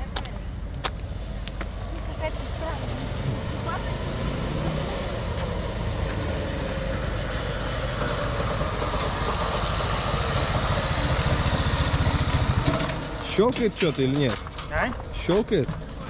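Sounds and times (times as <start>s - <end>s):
motorcycle engine running: 2.2s - 16.0s.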